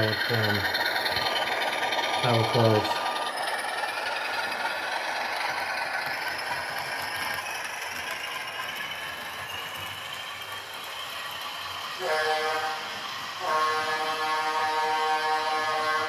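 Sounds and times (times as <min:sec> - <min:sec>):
rattle of gears and wheels: 0:00.0 - 0:14.6.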